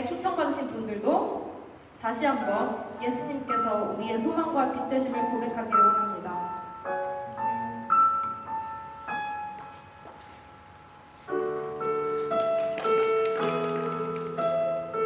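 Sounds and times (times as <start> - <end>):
piano playing: 2.4 - 15.0.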